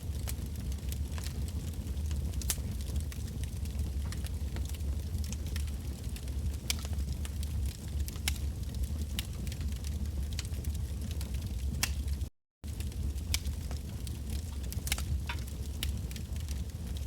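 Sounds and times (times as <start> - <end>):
wood bonfire crackling: 0.0 - 17.0.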